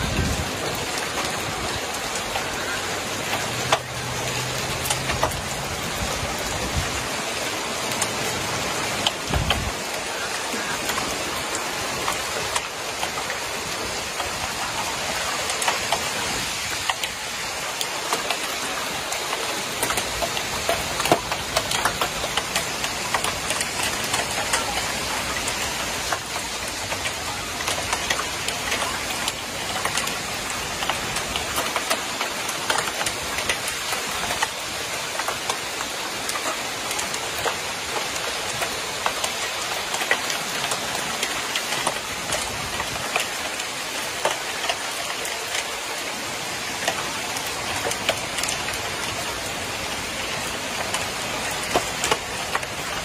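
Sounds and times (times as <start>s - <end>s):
hailstones ticking: 0.0s - 53.0s
heavy rain hissing: 0.0s - 53.0s.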